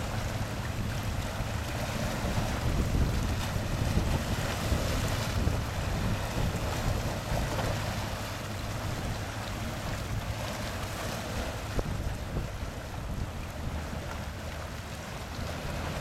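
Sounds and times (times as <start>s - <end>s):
rushing sea water: 0.0s - 16.0s
wind buffeting microphone: 0.0s - 16.0s.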